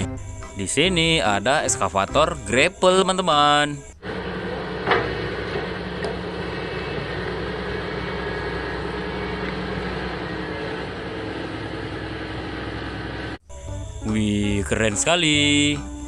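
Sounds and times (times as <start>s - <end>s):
excavator engine humming: 0.0s - 16.0s.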